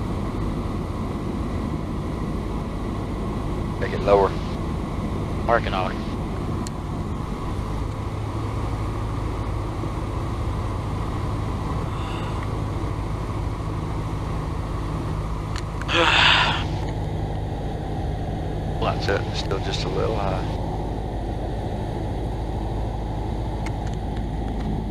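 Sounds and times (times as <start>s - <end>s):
propeller plane engine droning: 0.0s - 24.9s.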